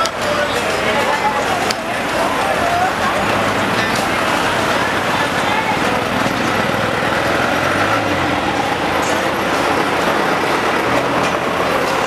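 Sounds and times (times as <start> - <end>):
street traffic noise: 0.0 - 12.0
vehicle passing close by: 2.0 - 12.0.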